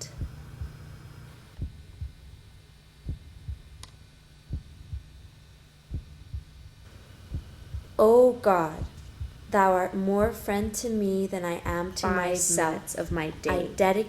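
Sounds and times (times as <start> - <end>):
slow heartbeat thuds: 0.0 - 14.0
steady low hum: 0.0 - 14.0.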